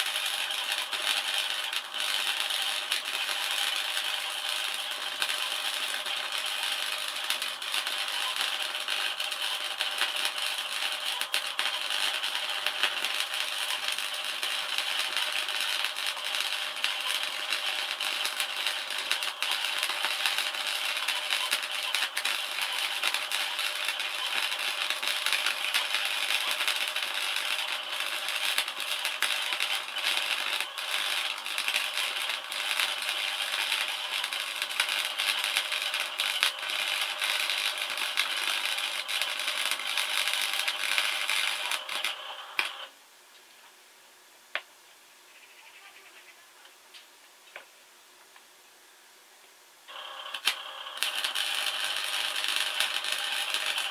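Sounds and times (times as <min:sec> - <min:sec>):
welding arc crackling: 0:00.0 - 0:42.9, 0:49.9 - 0:53.9.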